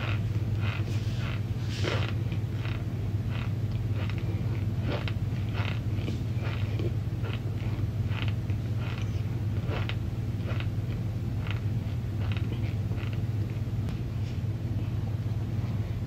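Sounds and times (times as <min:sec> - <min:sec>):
crunchy chewing: 0:00.0 - 0:13.7.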